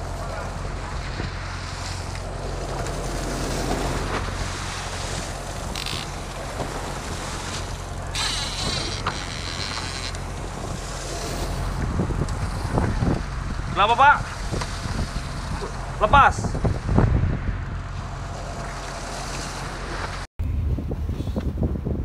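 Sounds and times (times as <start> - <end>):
boat engine running: 0.0 - 20.3
water wash: 0.0 - 20.3
wind noise on microphone: 0.0 - 22.0.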